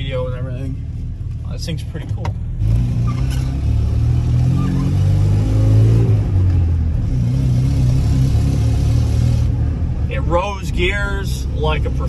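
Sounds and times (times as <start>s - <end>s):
engine heard from inside cab: 0.0s - 12.0s.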